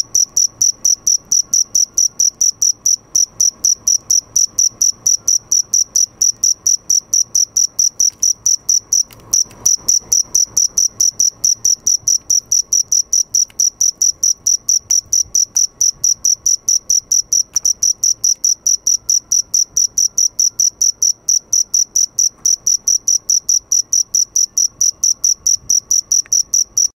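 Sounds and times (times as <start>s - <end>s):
cricket chirping: 0.0s - 26.9s.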